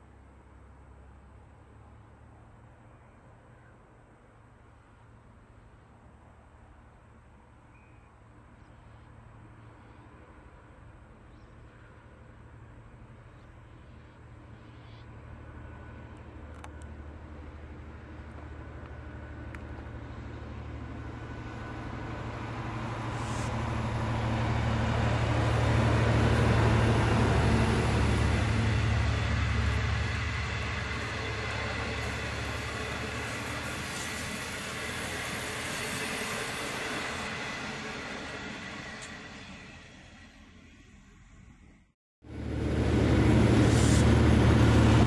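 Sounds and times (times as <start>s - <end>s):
diesel train passing: 0.0s - 45.0s.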